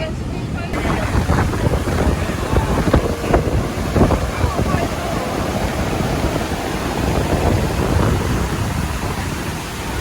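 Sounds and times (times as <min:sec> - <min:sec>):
wind rumbling on microphone: 0:00.0 - 0:10.0
waterfall rushing: 0:00.2 - 0:10.0.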